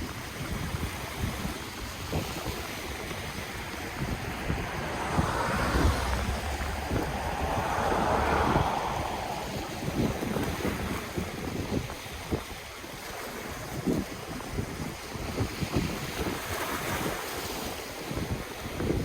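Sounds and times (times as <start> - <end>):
ocean waves washing on shore: 0.0 - 19.0
wind rumble on microphone: 0.0 - 19.0.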